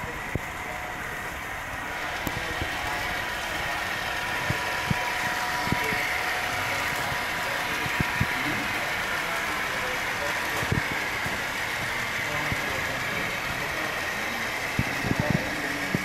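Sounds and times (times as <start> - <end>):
model locomotive engine sound: 0.0 - 16.0.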